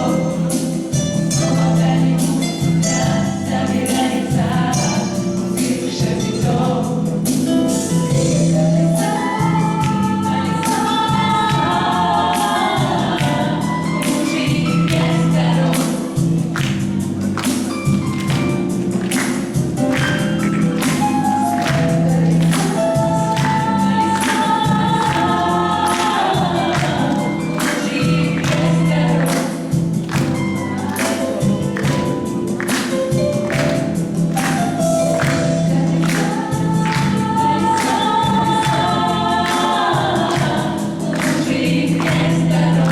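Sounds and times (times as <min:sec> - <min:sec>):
voices singing over a beat: 0:00.0 - 0:42.9.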